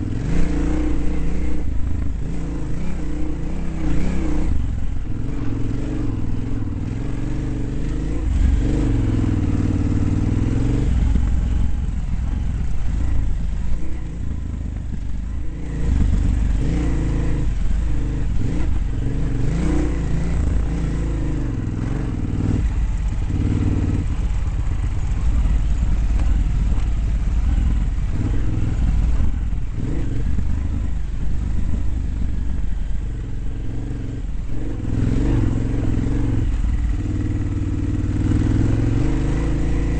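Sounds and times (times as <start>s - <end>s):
constant low rumble: 0.0s - 39.9s
dirt bike engine revving: 0.0s - 39.9s.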